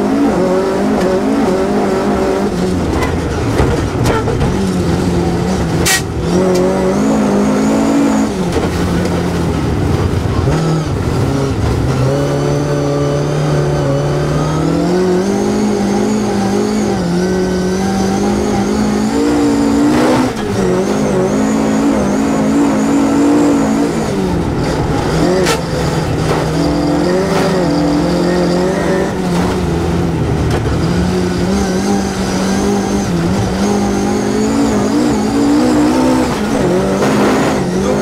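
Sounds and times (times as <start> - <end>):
car engine revving hard: 0.0 - 38.0.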